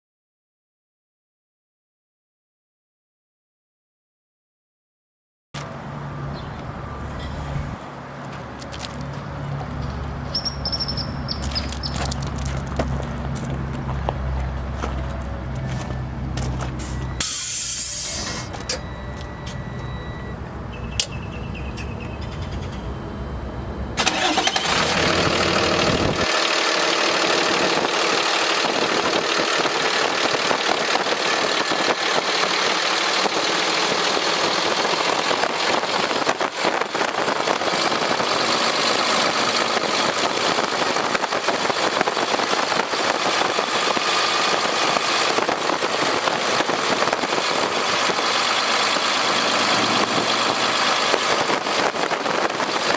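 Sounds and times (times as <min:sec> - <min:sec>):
diesel engine starting and idling: 0:05.6 - 0:52.9.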